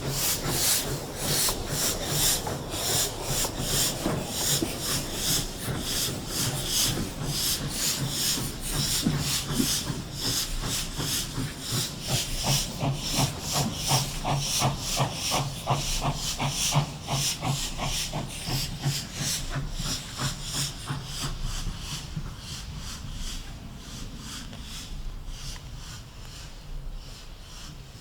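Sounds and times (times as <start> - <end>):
steam hiss: 0.0 - 28.0
steam locomotive chuffing: 0.0 - 28.0.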